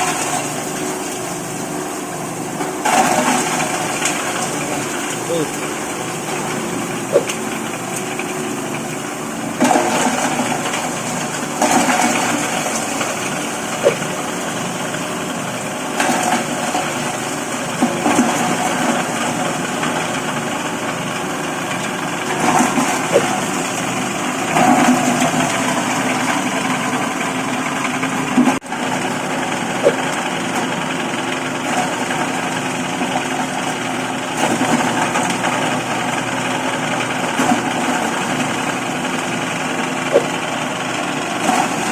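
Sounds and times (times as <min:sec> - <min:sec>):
bread grinding machine running: 0:00.0 - 0:41.9.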